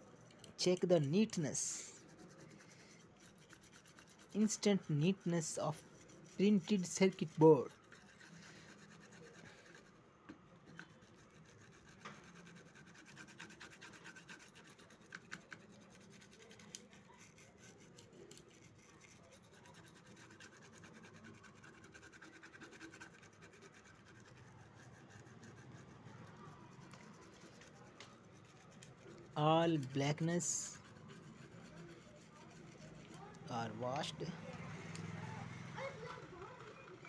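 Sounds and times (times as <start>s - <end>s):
toothbrush scratching circuit board: 0.0s - 10.0s, 10.6s - 37.0s.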